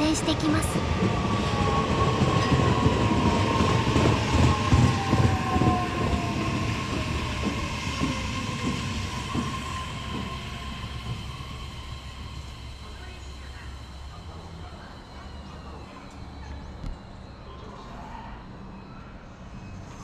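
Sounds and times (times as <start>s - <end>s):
train wheels rumbling on rails: 0.0s - 17.2s.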